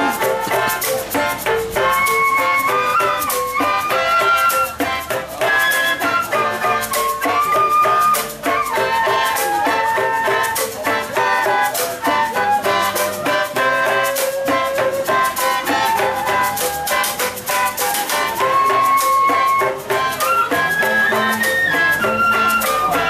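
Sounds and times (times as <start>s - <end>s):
bamboo flutes melody: 0.0s - 23.0s
bamboo percussion strikes: 0.0s - 23.0s.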